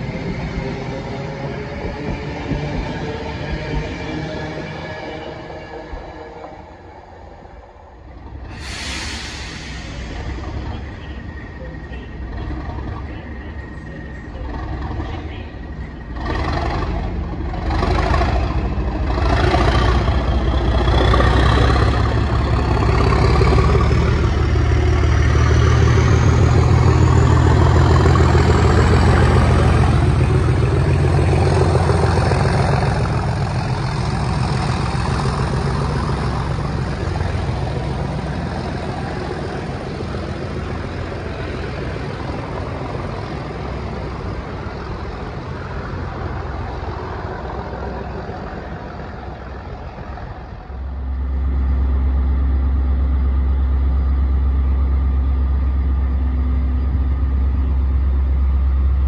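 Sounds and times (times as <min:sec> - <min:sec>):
diesel locomotive rumbling: 0:00.0 - 0:59.0.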